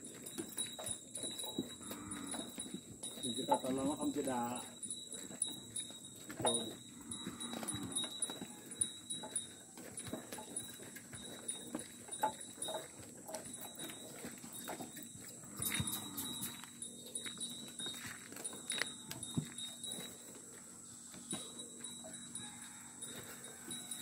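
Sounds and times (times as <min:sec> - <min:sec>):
cart knocking and rattling: 0:00.0 - 0:20.5
hooves clopping on pavement: 0:00.0 - 0:24.0.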